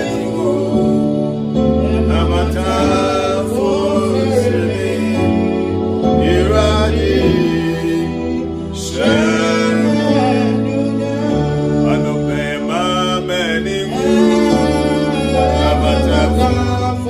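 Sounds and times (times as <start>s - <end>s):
gospel singing: 0.0s - 17.0s.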